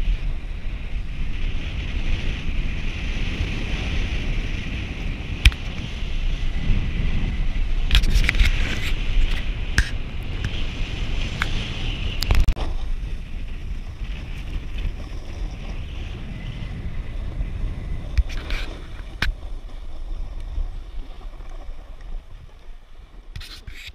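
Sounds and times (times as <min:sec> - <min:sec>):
snowboard sliding over snow: 0:00.0 - 0:23.9
wind buffeting microphone: 0:00.0 - 0:23.9.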